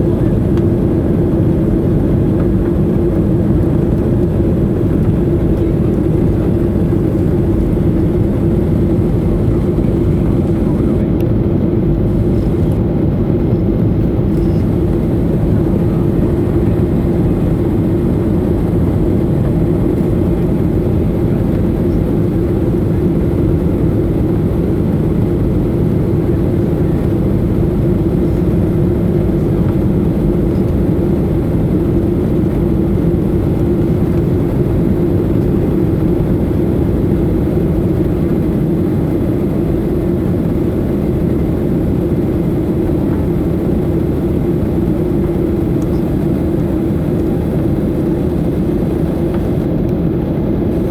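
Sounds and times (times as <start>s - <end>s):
constant hum: 0.0s - 50.9s
jet engines running: 0.0s - 50.9s.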